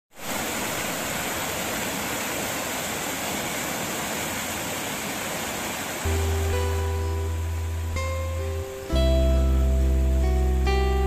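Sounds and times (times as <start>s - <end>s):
flowing water rushing: 0.1s - 11.0s.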